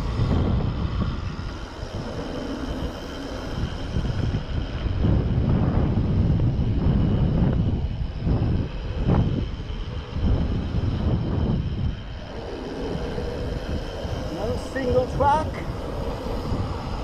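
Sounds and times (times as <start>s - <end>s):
bicycle tyres rolling on asphalt: 0.0s - 17.0s
wind on microphone: 0.0s - 17.0s.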